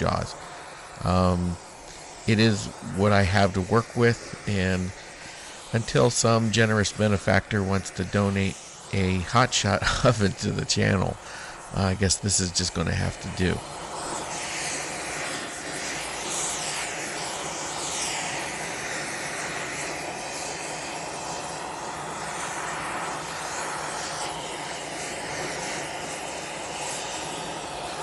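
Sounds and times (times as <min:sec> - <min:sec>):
torch flame hissing: 0:00.0 - 0:28.0.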